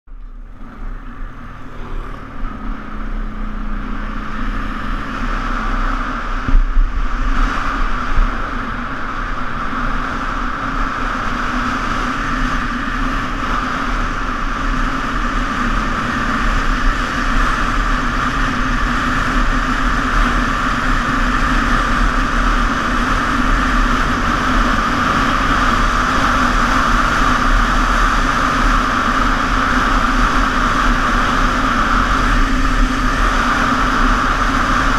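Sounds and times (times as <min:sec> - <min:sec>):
quad bike engine running: 0:00.1 - 0:34.9
wind on microphone: 0:00.6 - 0:34.9.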